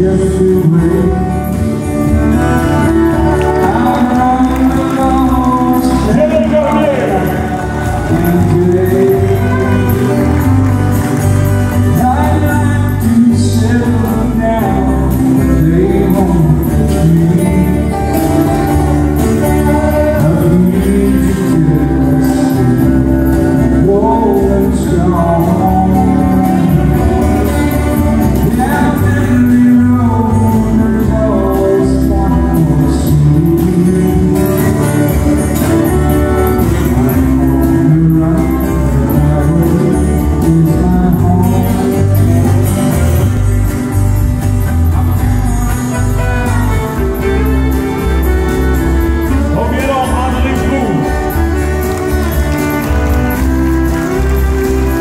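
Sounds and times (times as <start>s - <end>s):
man singing: 0.0s - 55.0s
strummed acoustic guitars: 0.0s - 55.0s.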